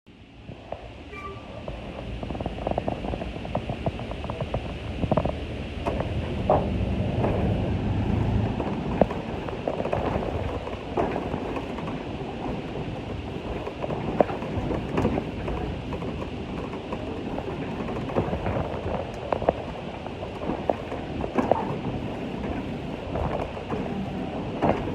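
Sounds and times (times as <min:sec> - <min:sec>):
brake van rumbling on rails: 0:00.2 - 0:24.9.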